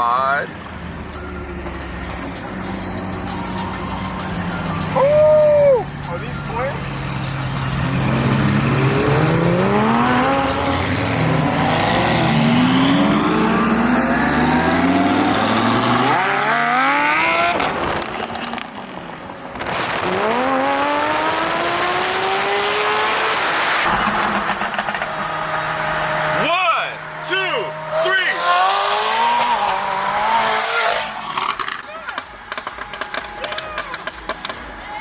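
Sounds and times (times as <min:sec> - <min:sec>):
car engine accelerating hard: 0:00.6 - 0:31.8.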